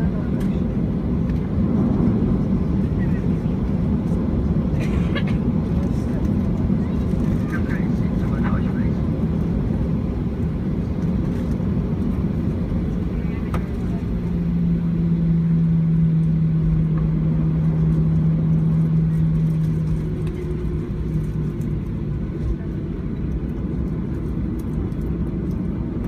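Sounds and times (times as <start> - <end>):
airframe rolling on taxiway: 0.0 - 26.0
jet engines low rumble: 0.0 - 26.0
steady low hum: 0.0 - 26.0.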